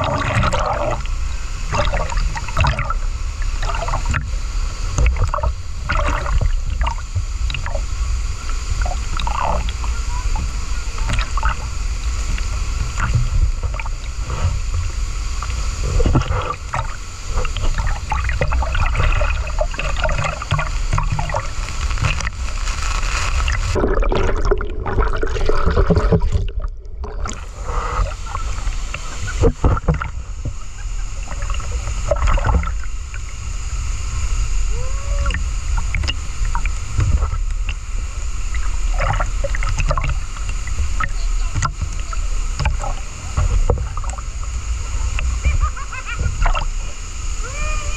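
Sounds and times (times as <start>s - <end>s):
rushing river water: 0.0s - 47.9s.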